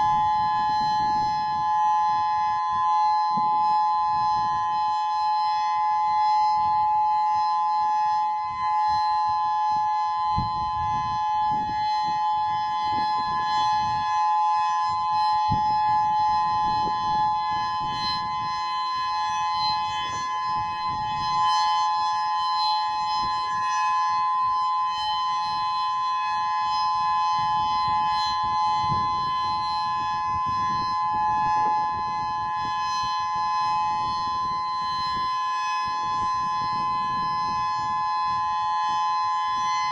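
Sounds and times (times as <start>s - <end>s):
outdoor warning siren held chord: 0.0s - 39.9s.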